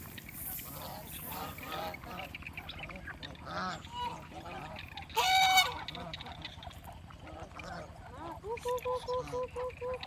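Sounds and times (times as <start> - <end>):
poultry calling: 0.2 - 10.0.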